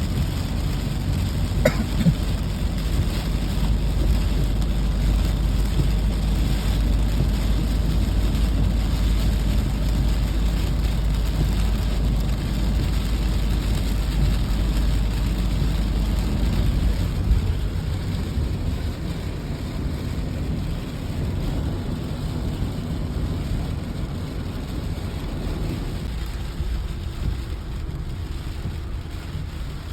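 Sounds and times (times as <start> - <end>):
heavy low rumble: 0.0 - 29.9
steady rain: 0.0 - 29.9.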